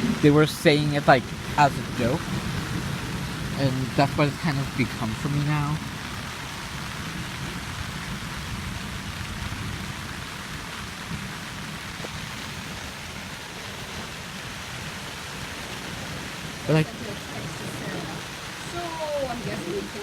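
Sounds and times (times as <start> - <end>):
heavy rain pouring: 0.0 - 20.0
thunder rumbling: 0.0 - 20.0.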